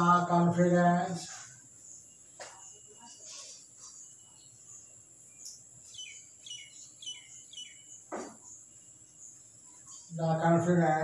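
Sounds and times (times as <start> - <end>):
small bird chirping: 1.3 - 10.7.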